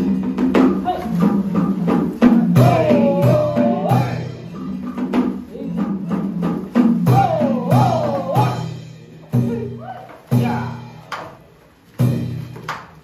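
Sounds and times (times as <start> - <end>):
drum and wood-block strikes: 0.0 - 13.0.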